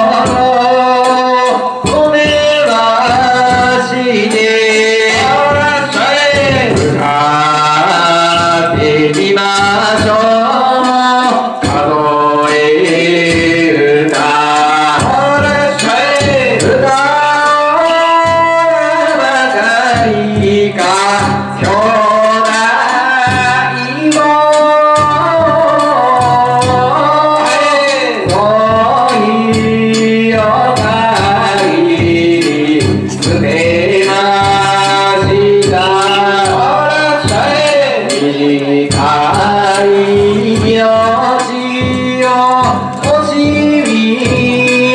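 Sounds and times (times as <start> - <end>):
man singing drawn-out phrases: 0.0 - 44.9
percussion strikes: 0.0 - 44.9.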